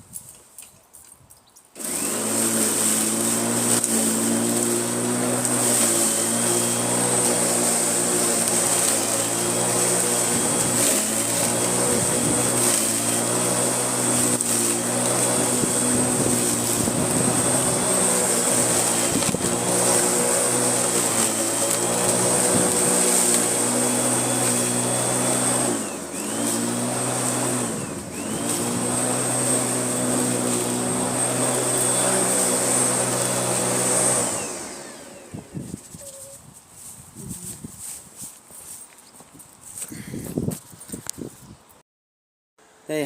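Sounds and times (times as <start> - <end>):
lawnmower switching on: 1.8 - 36.3
lawnmower motor whining: 1.8 - 38.8.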